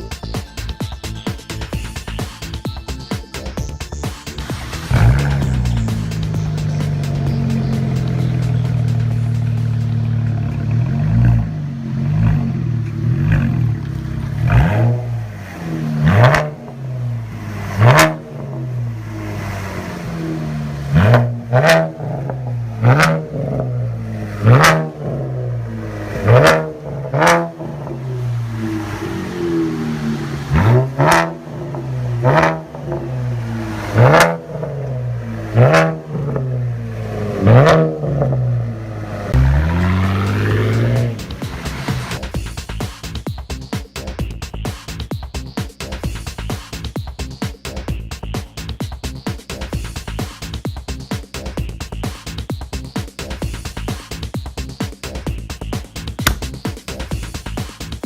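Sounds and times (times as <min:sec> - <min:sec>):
car engine revving: 0:00.0 - 0:43.3, 0:49.5 - 0:58.0
car engine idling: 0:00.0 - 0:58.0.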